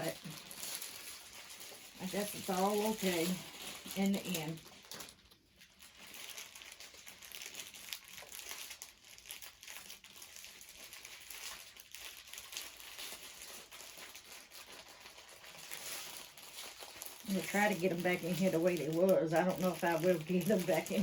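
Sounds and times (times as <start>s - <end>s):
plastic packets crinkling: 0.0s - 21.0s.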